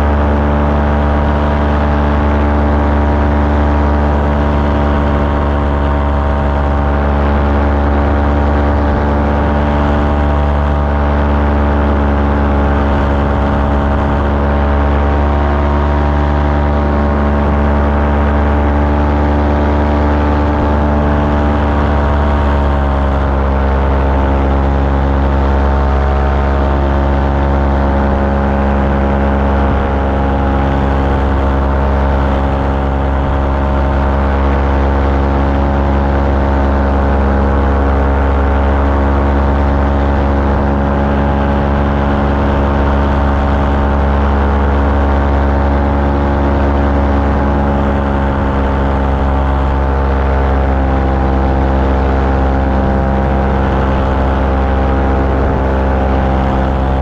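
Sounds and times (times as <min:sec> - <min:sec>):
small aircraft engine: 0:00.0 - 0:57.0.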